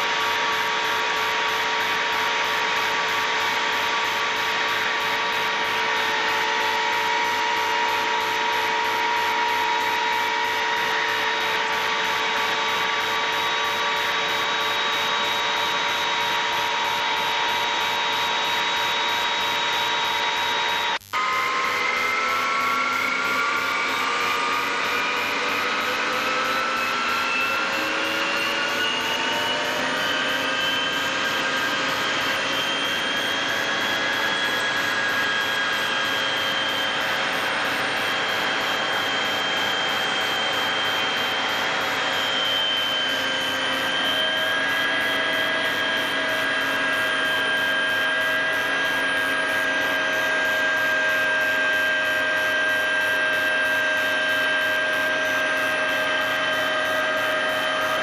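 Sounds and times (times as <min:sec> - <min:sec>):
turbine whining drone: 0:00.0 - 0:58.0.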